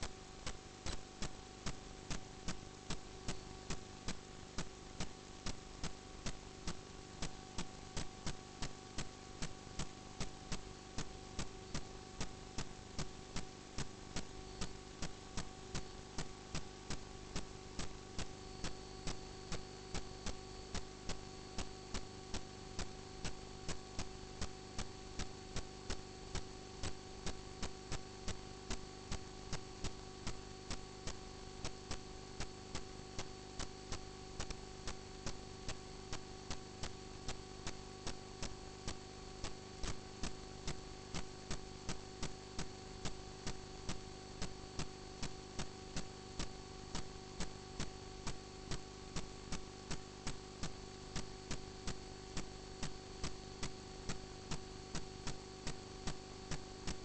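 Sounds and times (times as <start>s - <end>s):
electrical hum: 0.0s - 57.0s
sharp repeating clicks: 0.0s - 57.0s.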